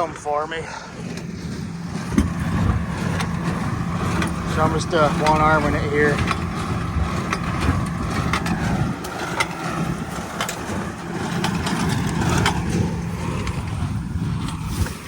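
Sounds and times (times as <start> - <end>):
machinery clicks and rattles: 0.0 - 15.0
tractor engine drone: 0.0 - 15.0.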